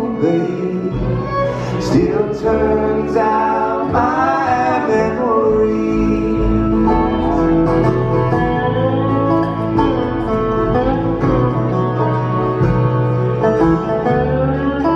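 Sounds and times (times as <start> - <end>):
bluegrass band playing: 0.0 - 14.9
fiddle: 0.0 - 14.9.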